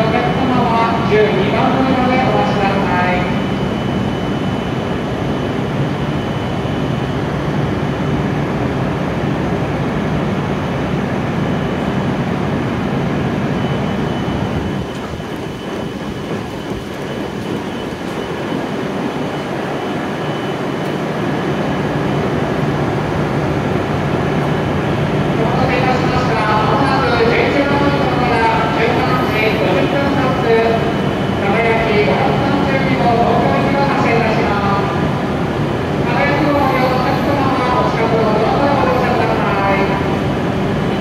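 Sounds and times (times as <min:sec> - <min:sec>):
train equipment humming and whirring: 0:00.0 - 0:41.0.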